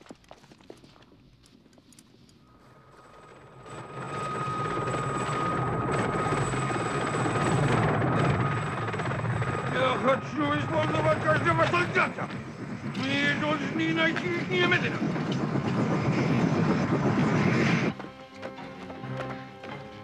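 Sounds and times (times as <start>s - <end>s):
helicopter rotor throb: 2.4s - 20.0s
high turbine whine: 2.4s - 20.0s.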